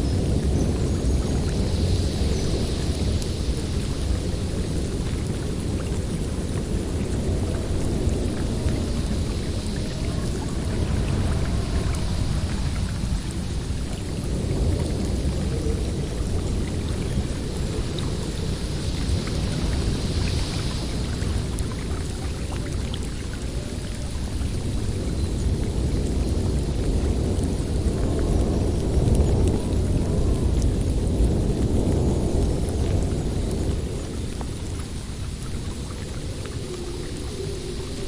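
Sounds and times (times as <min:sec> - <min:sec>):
gusty wind hiss: 0:00.0 - 0:38.0
wind rumbling in forest: 0:00.0 - 0:38.0.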